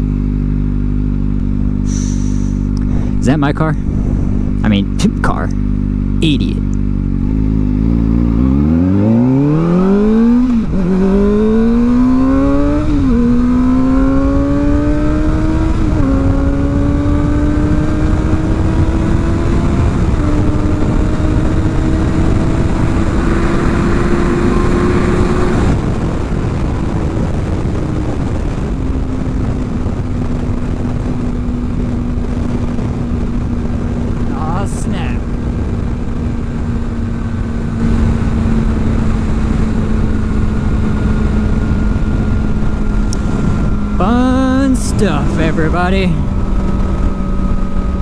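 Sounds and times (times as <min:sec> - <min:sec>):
motorcycle engine accelerating: 0:00.0 - 0:48.0
wind noise: 0:01.6 - 0:06.2, 0:08.3 - 0:44.0.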